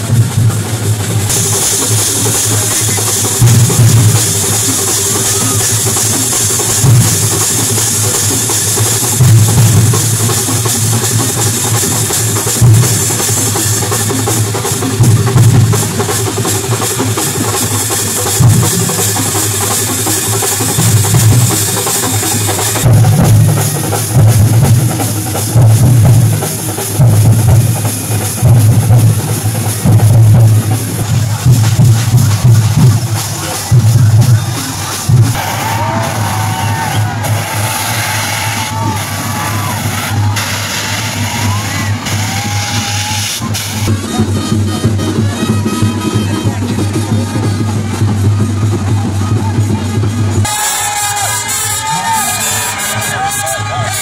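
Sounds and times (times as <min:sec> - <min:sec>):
deep bass drum beats: 0:00.0 - 0:50.6
drums and cymbals: 0:00.0 - 0:54.0.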